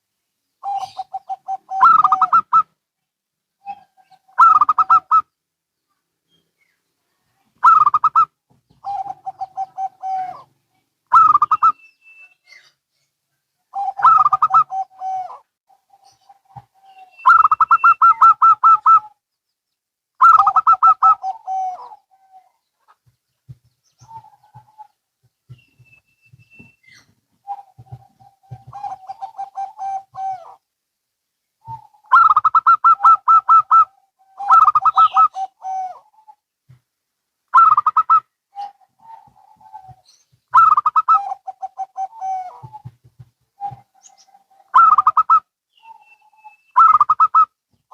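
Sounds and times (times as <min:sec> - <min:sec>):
doves cooing: 0:00.6 - 0:02.8, 0:03.6 - 0:05.3, 0:07.6 - 0:11.8, 0:13.7 - 0:19.2, 0:20.2 - 0:30.7, 0:31.6 - 0:36.4, 0:37.5 - 0:47.6.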